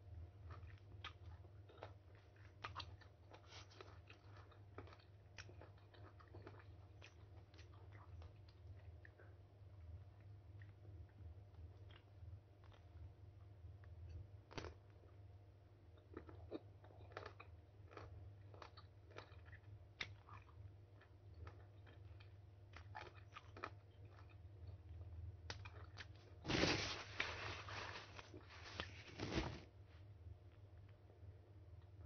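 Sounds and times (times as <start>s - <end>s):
chewing and crunching fruit: 0.1s - 15.2s, 15.8s - 29.3s.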